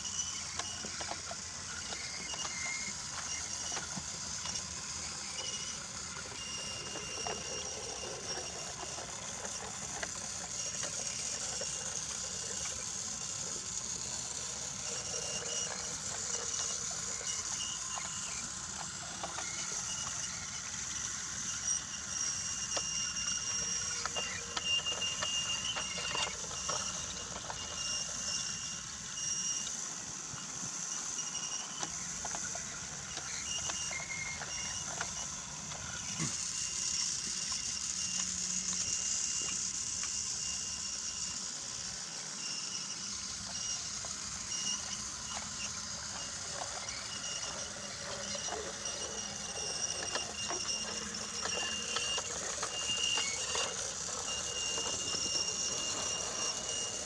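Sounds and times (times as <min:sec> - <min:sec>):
toy train motor whine: 0:00.0 - 0:57.0
wheels clicking over track: 0:00.0 - 0:57.0.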